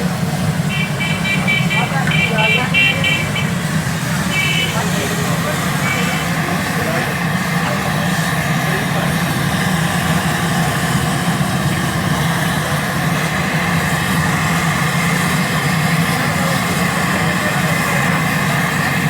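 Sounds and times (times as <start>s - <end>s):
low drone with hiss: 0.0s - 19.0s.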